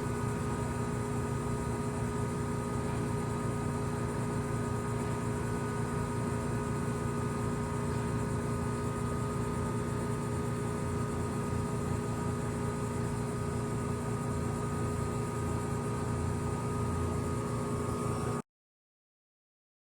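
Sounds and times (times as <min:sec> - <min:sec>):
condenser fan noise: 0:00.0 - 0:18.4
heat pump compressor hum: 0:00.0 - 0:18.4.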